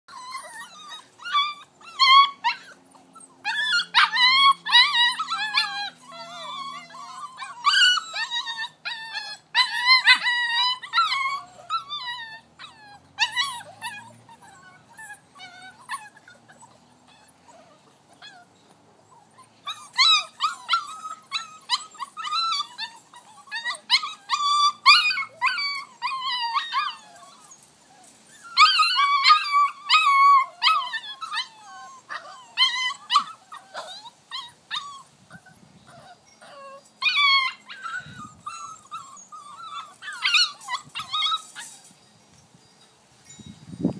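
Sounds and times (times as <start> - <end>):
puppy whining and crying: 0.1 - 42.1.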